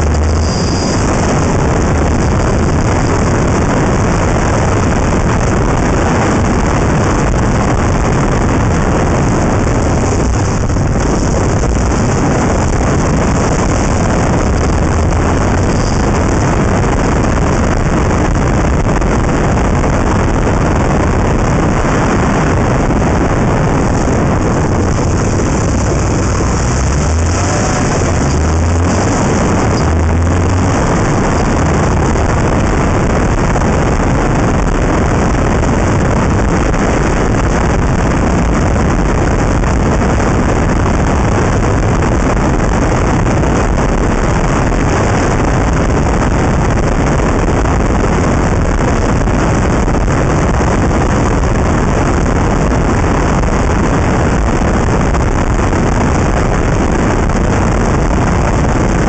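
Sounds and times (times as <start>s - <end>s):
car road and tyre noise: 0.0s - 59.0s
wind rushing over microphone: 0.0s - 59.0s.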